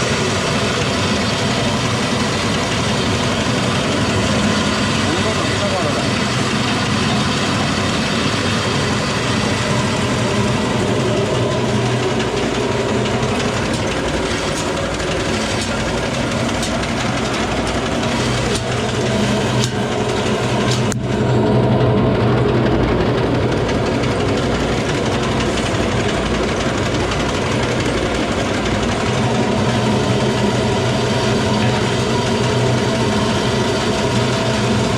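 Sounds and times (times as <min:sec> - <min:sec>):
mill humming and rattling: 0:00.0 - 0:34.9.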